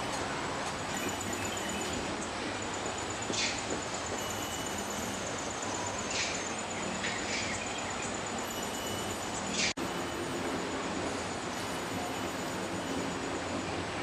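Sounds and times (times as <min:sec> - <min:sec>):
faint high insect drone: 0:00.0 - 0:14.0.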